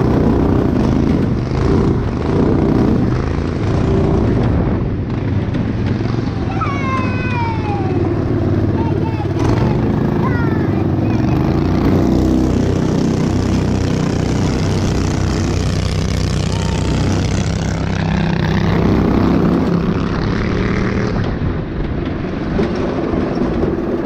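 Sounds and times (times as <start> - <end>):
go-kart engine under throttle: 0.0 - 24.0.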